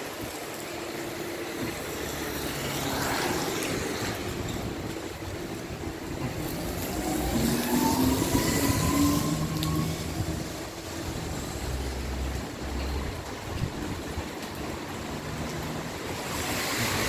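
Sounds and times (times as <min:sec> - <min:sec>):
heavy rain on wet street: 0:00.0 - 0:17.0
vehicle passing on wet road: 0:00.0 - 0:17.0.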